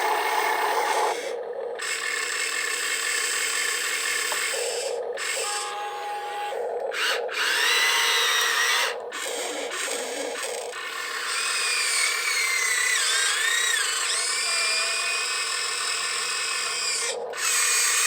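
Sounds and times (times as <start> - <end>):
small electric motors whining: 0.0 - 18.0.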